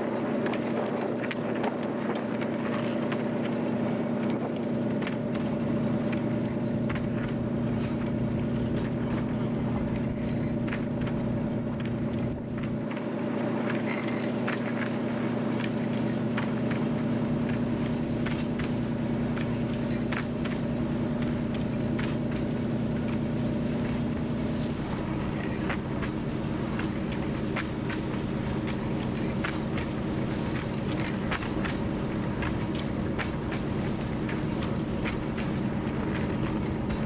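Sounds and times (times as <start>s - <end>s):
diesel locomotive engine running: 0.0s - 37.0s
wheels clicking over rail joints: 0.0s - 37.0s.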